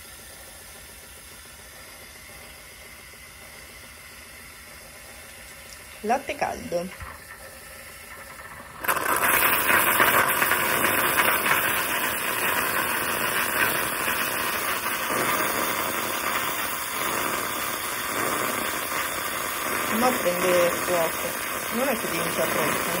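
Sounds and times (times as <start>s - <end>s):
milk frother hissing: 0.0s - 23.0s.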